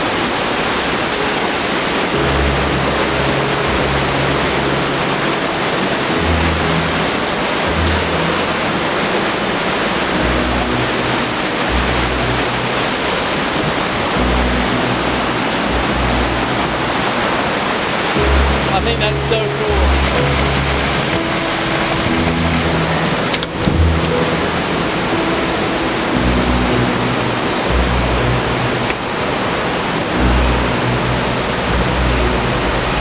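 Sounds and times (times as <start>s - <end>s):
water gushing over rocks: 0.0s - 33.0s
low bass background music: 2.1s - 33.0s.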